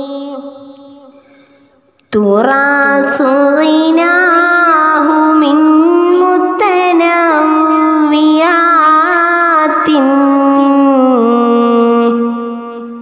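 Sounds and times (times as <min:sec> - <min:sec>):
woman singing: 0:00.0 - 0:01.4, 0:02.0 - 0:13.0.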